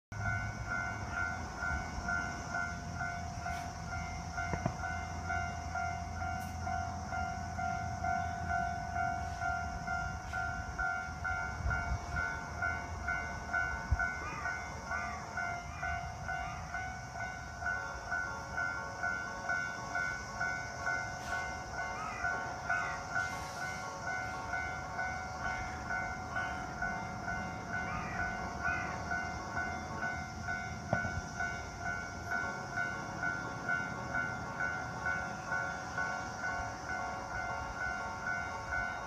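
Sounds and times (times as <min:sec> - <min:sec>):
level crossing alarm bell ringing: 0:00.2 - 0:39.0.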